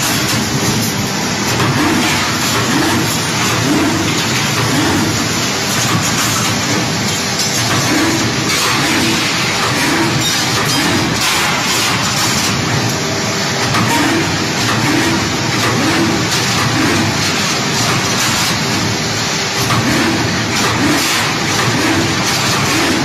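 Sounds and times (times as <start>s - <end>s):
machine mechanical din: 0.0s - 23.0s.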